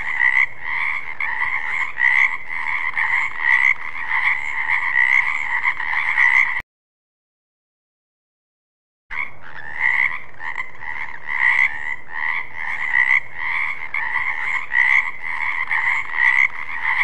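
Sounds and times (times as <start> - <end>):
frogs croaking: 0.0 - 6.6, 9.1 - 17.0.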